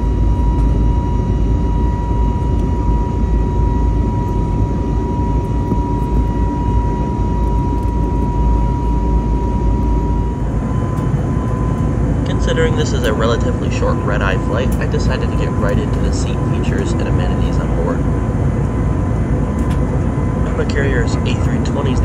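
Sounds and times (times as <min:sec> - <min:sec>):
engine and airflow rumble: 0:00.0 - 0:22.0
thin steady whine: 0:00.0 - 0:22.0.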